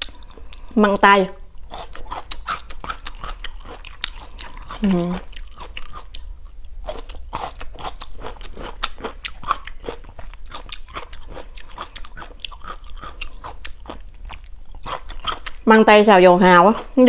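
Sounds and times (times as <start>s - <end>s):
crunchy chewing: 0.0s - 0.8s, 1.4s - 15.7s.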